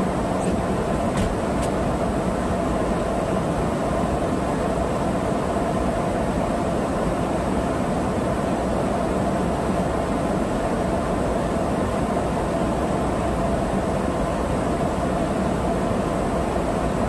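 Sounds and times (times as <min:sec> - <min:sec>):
jet engine and airflow noise: 0:00.0 - 0:17.0.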